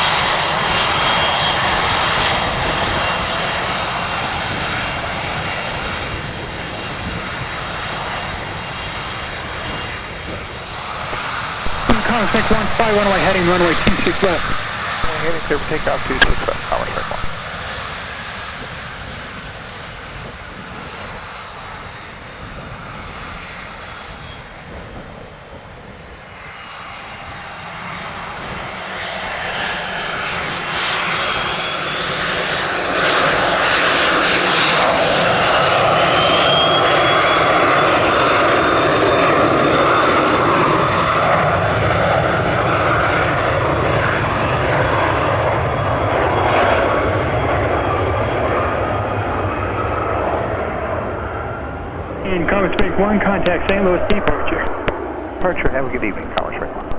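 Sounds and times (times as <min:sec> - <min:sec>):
jet taking off: 0:00.0 - 0:24.8, 0:25.4 - 0:56.9.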